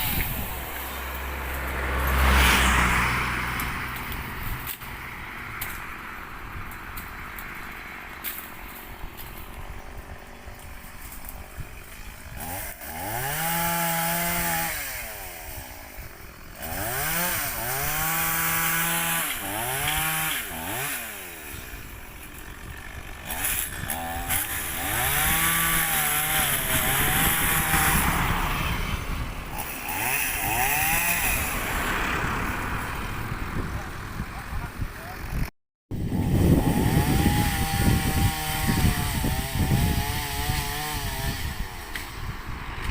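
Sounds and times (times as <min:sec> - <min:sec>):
chainsaw revving and idling: 0:00.0 - 0:33.0, 0:33.8 - 0:42.9.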